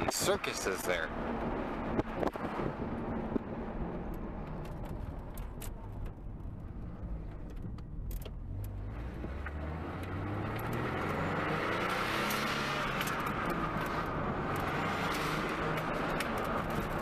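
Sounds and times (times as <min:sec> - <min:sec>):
car engine: 0:00.0 - 0:17.0
road noise inside car: 0:00.0 - 0:17.0.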